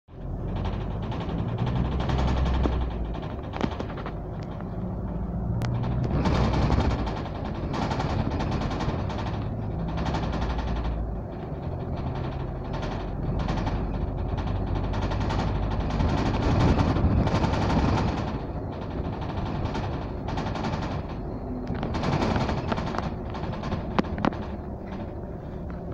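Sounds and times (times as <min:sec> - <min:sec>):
bus body and windows rattling: 0:00.1 - 0:25.9
bus engine drone: 0:00.1 - 0:25.9.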